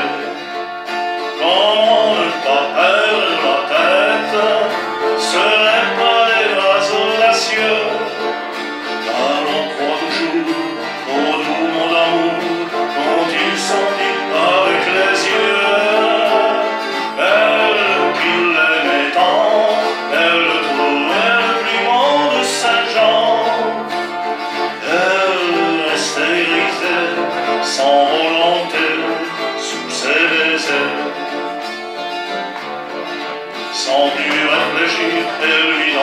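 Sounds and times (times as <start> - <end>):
gliding melody line: 0.0 - 36.0
strummed guitar: 0.0 - 36.0.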